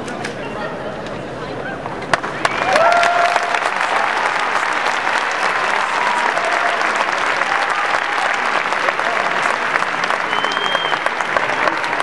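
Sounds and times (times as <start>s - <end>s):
crowd applauding: 2.1s - 12.0s.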